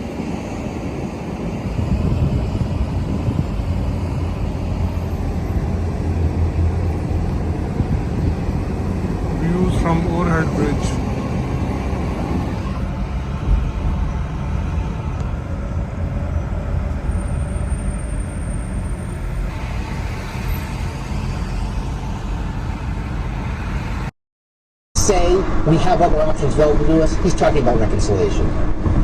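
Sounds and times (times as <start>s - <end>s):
car driving in traffic: 0.0s - 24.1s.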